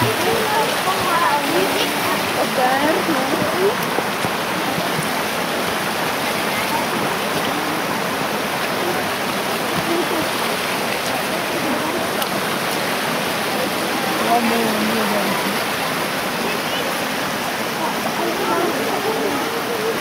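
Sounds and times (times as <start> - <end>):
stream flowing over stones: 0.0 - 20.0.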